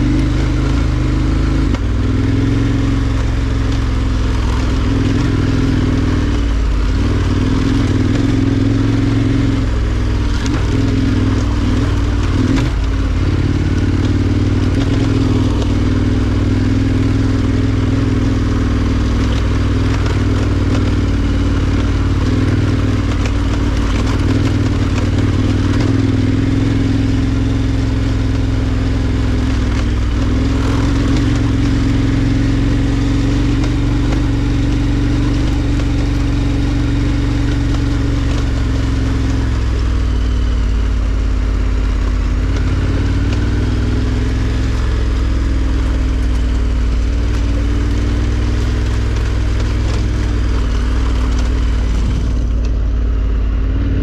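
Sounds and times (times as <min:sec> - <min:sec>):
motorcycle engine at low revs: 0:00.0 - 0:54.0.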